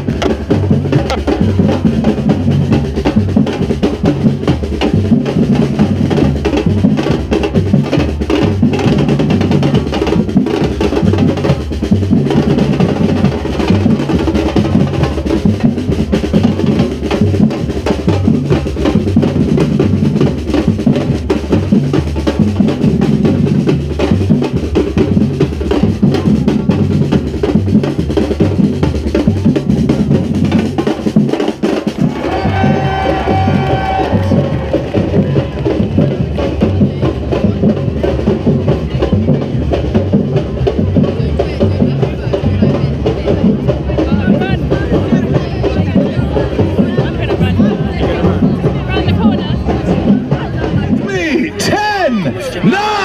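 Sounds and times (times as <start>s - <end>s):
drum band playing: 0.0s - 53.0s.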